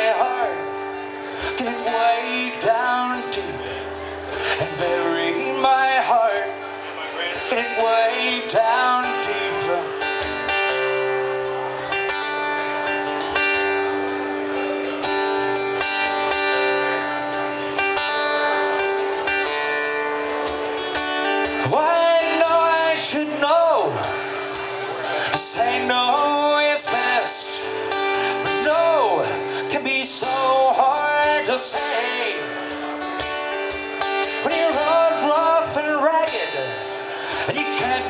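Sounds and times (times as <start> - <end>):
acoustic guitars playing: 0.0 - 38.0.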